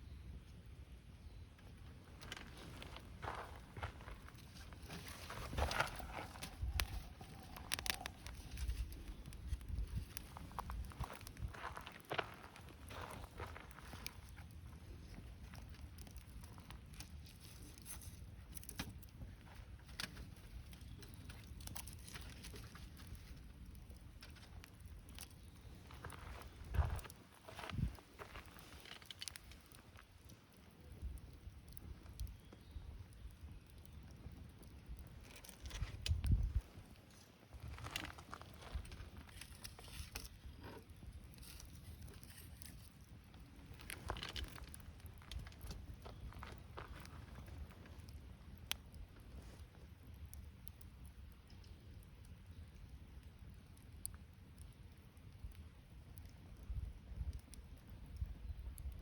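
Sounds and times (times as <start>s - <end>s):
campfire crackling: 0.1s - 59.0s
fire snaps and pops: 1.2s - 59.0s.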